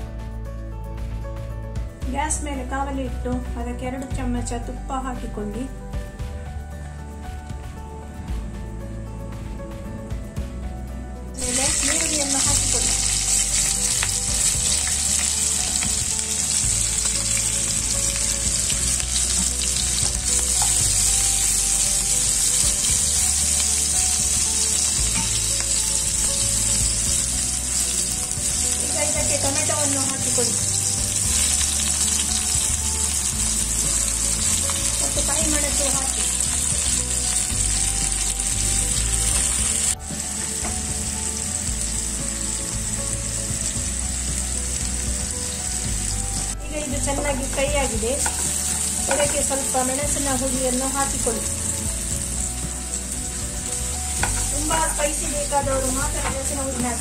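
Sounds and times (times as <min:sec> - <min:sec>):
vegetables sizzling in a pan: 0:11.4 - 0:57.0.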